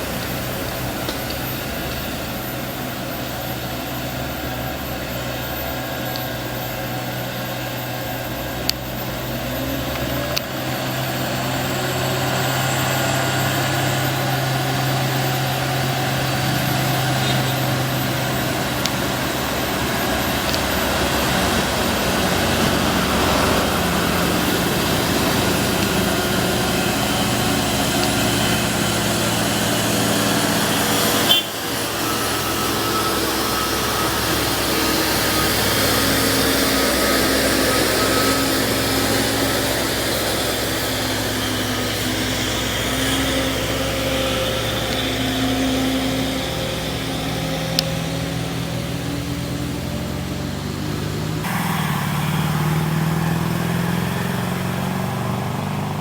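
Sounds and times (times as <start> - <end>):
diesel truck engine labouring: 0.0 - 56.0.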